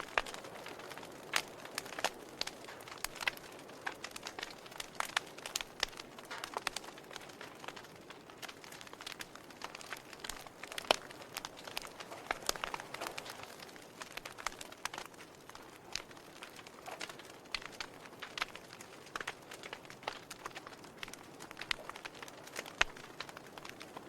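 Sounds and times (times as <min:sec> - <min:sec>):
sharp pops from fire: 0:00.0 - 0:24.0
wood fire crackling: 0:00.0 - 0:24.0.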